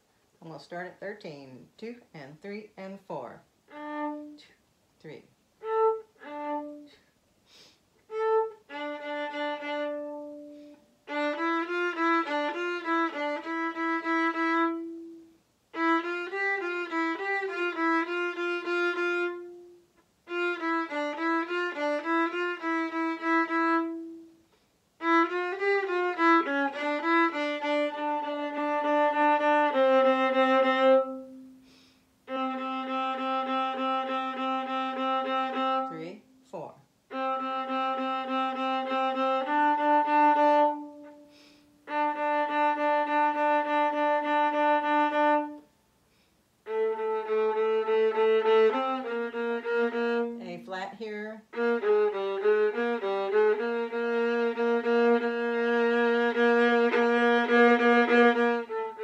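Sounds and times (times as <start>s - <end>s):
bowed viola: 3.6s - 45.7s, 46.6s - 59.0s.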